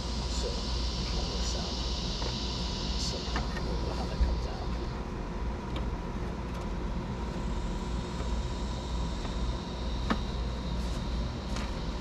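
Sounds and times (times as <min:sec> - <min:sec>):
faint whine: 0:00.0 - 0:12.0.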